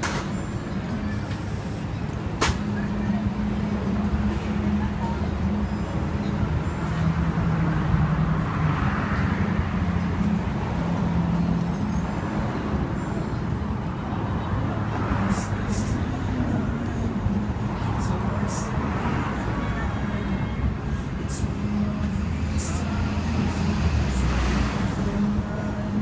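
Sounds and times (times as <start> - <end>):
low street hum: 0.0 - 26.0.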